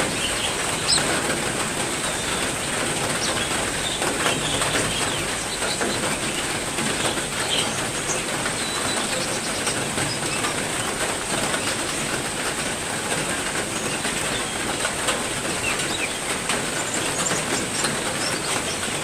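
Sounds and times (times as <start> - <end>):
small birds chirping: 0.0 - 11.9, 13.6 - 14.8, 15.4 - 19.0
heavy rain: 0.0 - 19.0.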